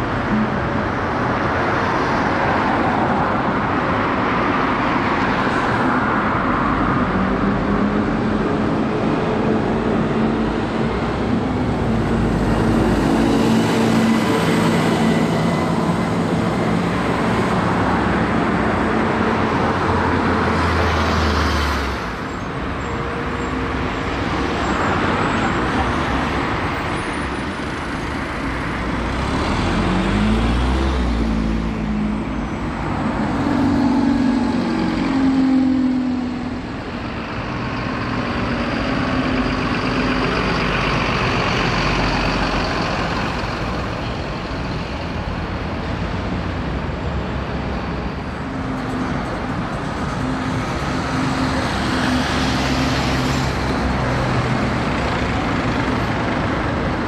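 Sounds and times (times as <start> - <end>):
diesel buses moving off: 0.0 - 57.0
street traffic: 0.0 - 57.0.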